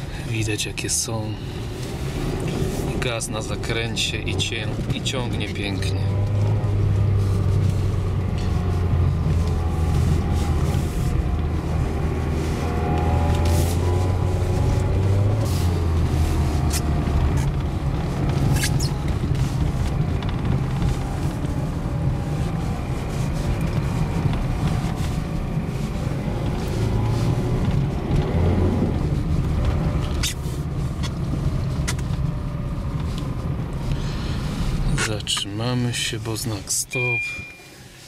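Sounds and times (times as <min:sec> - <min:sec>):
car engine hum: 0:00.0 - 0:38.0
tyre and road noise on snow: 0:00.0 - 0:38.0.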